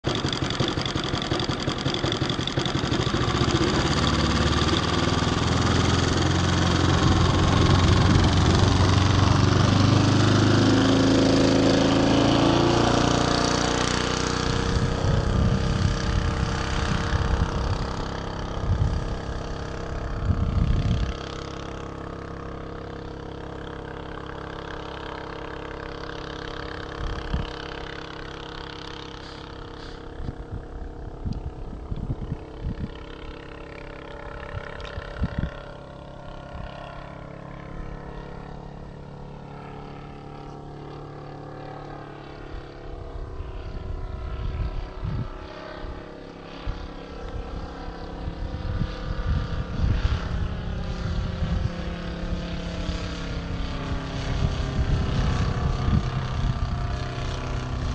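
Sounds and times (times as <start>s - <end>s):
model airplane engine running: 0.0s - 57.9s.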